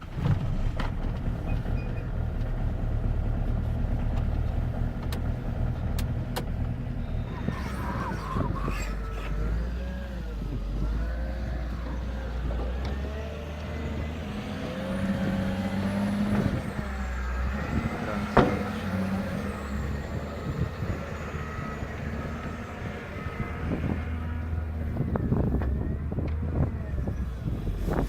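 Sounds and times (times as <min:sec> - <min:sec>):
diesel engine low rumble: 0:00.0 - 0:28.0.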